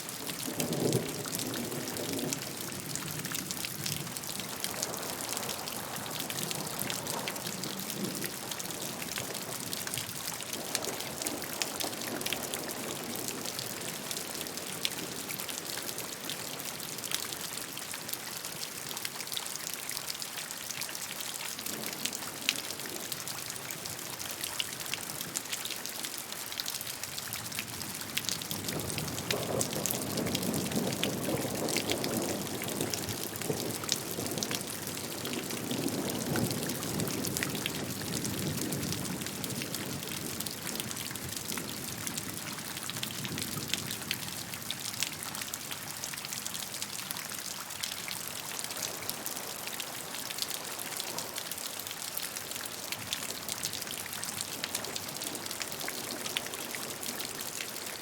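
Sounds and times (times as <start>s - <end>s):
low rush of rain: 0.0s - 58.0s
rain drops ticking: 0.0s - 58.0s
steady rain hiss: 0.0s - 58.0s.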